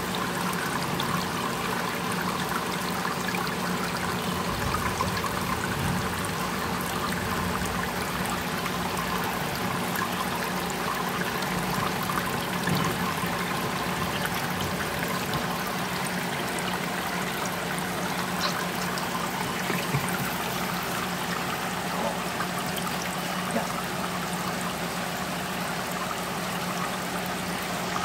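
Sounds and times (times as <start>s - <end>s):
water trickling into aquarium: 0.0s - 28.0s.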